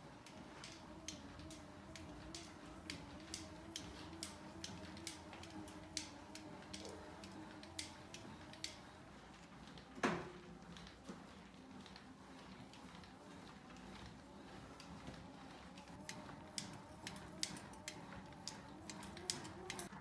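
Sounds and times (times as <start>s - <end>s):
elliptical trainer pedal clicks: 0.0s - 20.0s.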